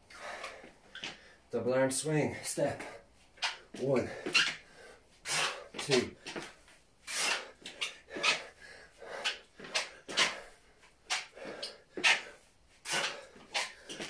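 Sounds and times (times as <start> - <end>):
man breathing hard: 0.0 - 1.5, 3.8 - 14.0.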